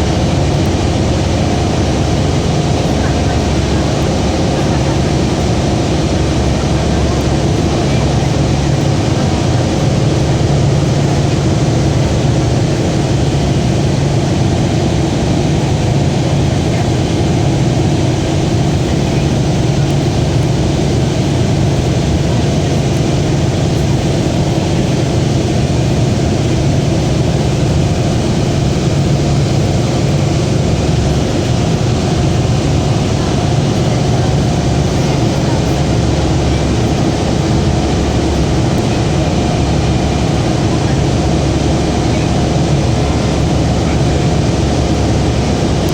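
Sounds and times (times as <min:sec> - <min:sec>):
hovercraft engine drone: 0:00.0 - 0:45.9.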